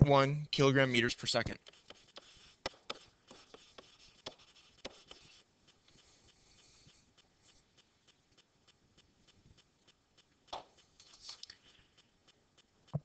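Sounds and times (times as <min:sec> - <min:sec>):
faint evenly spaced ticking: 0:00.1 - 0:13.0.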